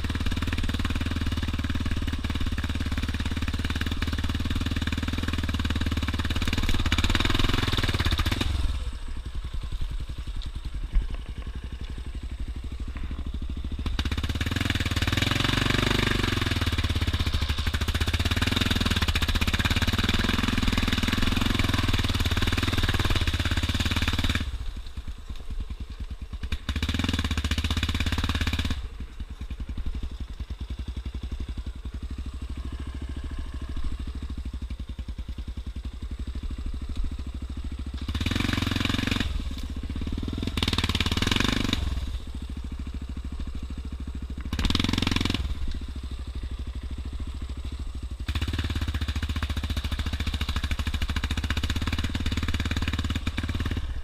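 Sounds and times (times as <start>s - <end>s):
quad engine revving: 0.0s - 10.2s, 11.0s - 24.6s, 26.4s - 29.6s, 30.6s - 34.6s, 35.8s - 54.0s.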